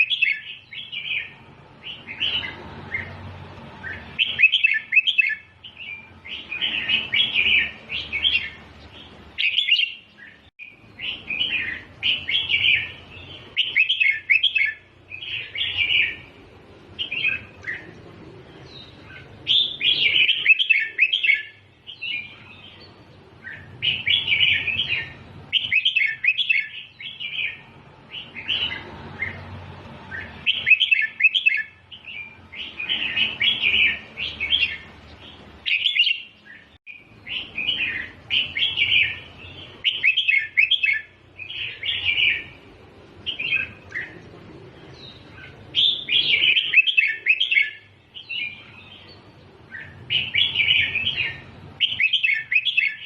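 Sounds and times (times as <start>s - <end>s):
bird singing warbled phrases: 0.0s - 53.0s.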